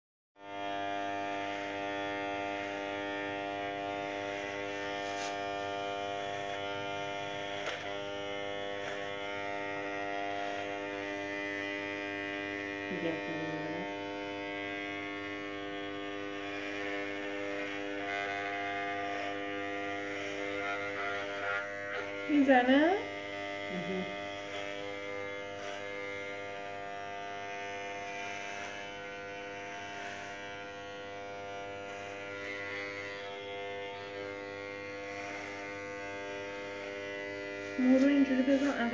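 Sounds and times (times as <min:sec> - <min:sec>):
electric hair clipper buzzing: 0:00.4 - 0:38.9.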